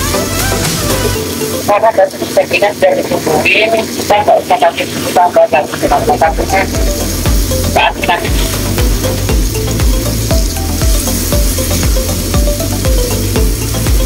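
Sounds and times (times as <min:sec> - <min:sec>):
background music with steady beat: 0:00.0 - 0:14.0
food sizzling in a wok: 0:00.0 - 0:14.0.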